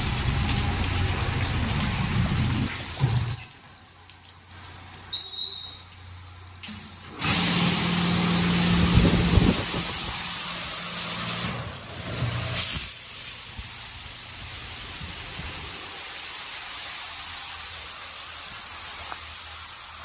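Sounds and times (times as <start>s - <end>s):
high-pressure water spraying: 0.0s - 20.0s.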